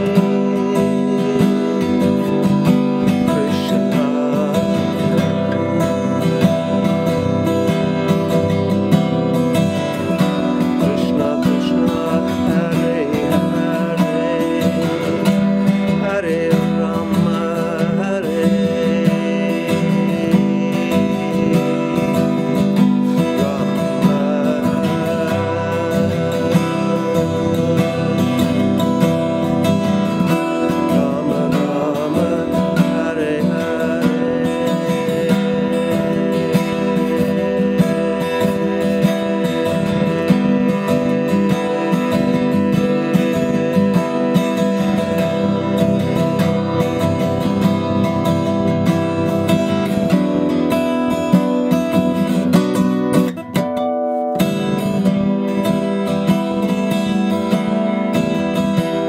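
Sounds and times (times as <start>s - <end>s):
acoustic guitar strummed: 0.0s - 59.0s.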